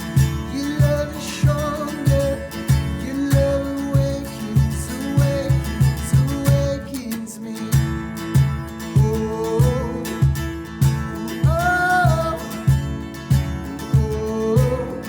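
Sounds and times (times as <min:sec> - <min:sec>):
guitar music over a steady beat: 0:00.0 - 0:15.0.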